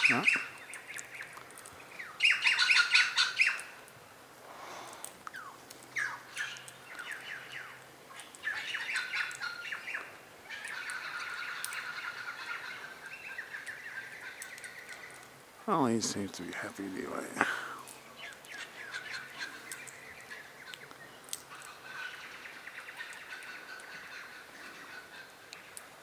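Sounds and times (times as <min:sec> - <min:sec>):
birds chirping and squawking: 0:00.0 - 0:03.8, 0:05.3 - 0:25.8.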